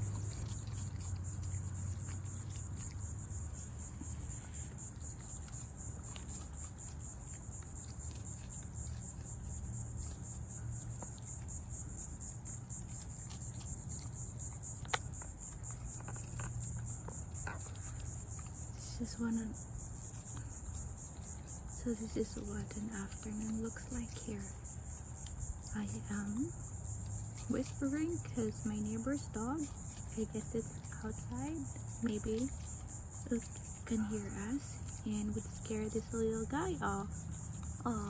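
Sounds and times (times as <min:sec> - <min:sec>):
insects trilling: 0:00.0 - 0:38.0
steady low hum: 0:00.0 - 0:38.0.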